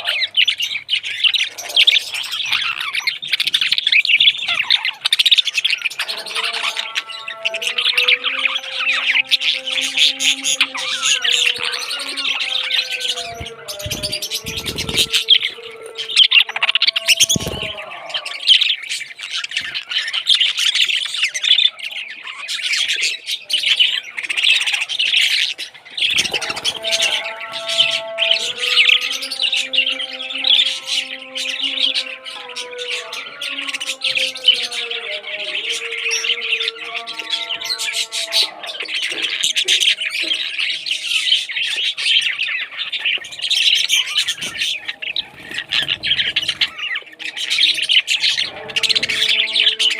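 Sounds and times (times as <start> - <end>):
parrots chirping and squawking: 0.0 - 49.9.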